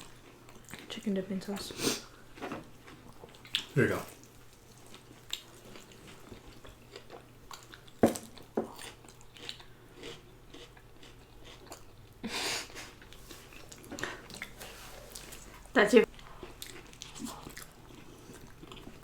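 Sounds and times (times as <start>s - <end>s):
chewing and crunching food: 0.0s - 19.0s.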